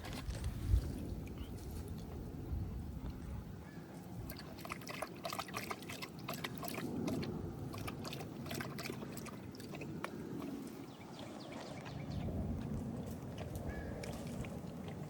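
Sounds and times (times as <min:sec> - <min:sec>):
horses chewing feed: 0:00.0 - 0:01.4, 0:04.3 - 0:15.0.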